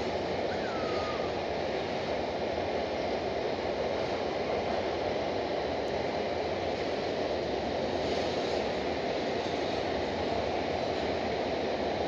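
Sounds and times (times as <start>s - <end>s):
freight train rolling on rails: 0.0s - 12.0s.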